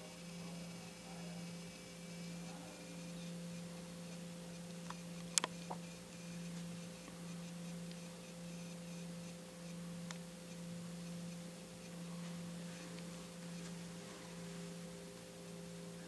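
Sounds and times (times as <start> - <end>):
faint high steady tone: 0.0 - 16.0
steady low hum: 0.0 - 16.0.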